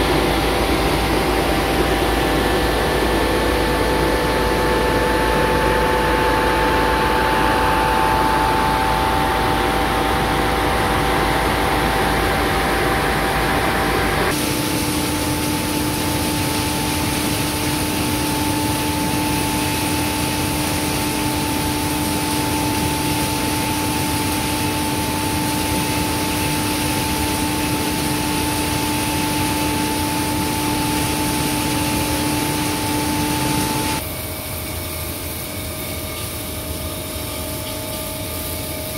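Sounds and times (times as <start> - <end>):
industrial blower drone: 0.0 - 38.9.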